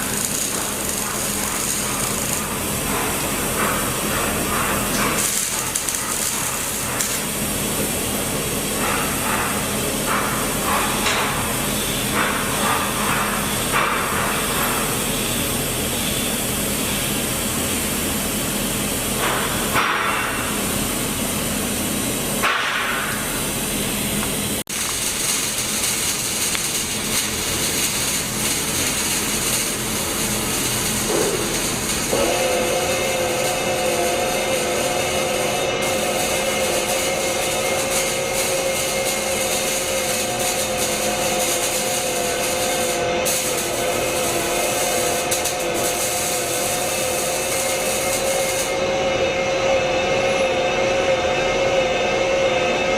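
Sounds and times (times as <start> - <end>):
welding arc hissing and crackling: 0.0 - 49.1.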